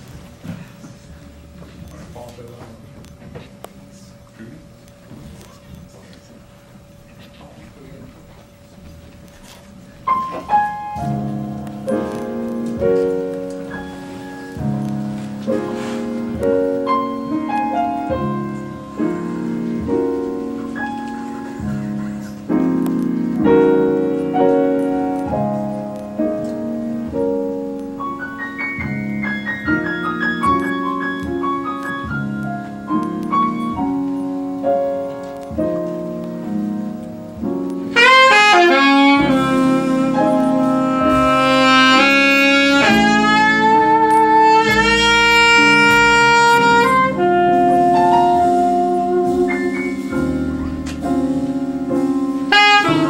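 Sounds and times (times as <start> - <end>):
jazz piano: 0.0 - 53.0
alto saxophone: 10.2 - 53.0.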